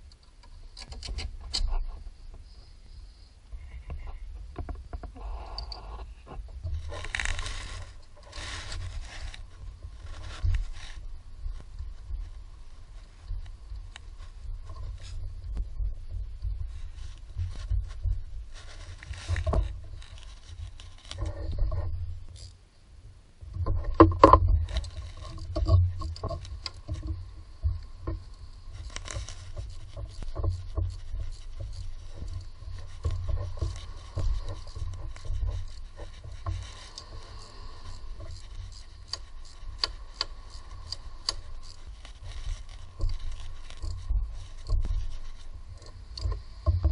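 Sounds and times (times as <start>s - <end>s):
low rumble: 1.7s - 46.9s
plastic and rubber parts rustling: 3.6s - 22.6s, 23.5s - 46.9s.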